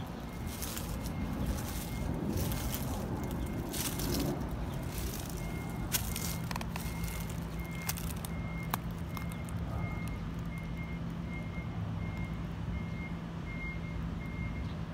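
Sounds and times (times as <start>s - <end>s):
reversing alarm beeping: 0.0s - 14.8s
low engine hum: 0.0s - 14.9s.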